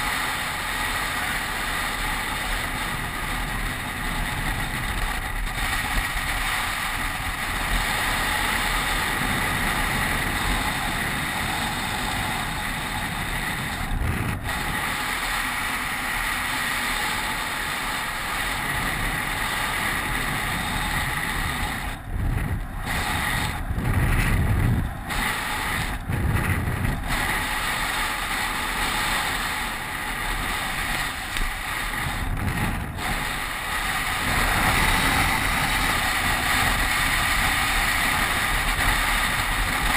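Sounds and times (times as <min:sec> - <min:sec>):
bike tyres rolling on asphalt: 0:00.0 - 0:39.9
wind rushing over camera: 0:00.0 - 0:39.9.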